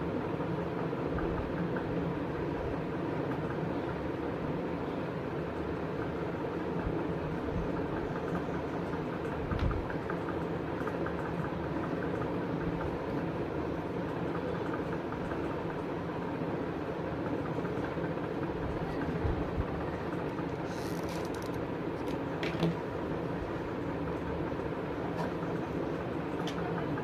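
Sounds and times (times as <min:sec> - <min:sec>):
low rumbling machine hum: 0:00.0 - 0:27.0.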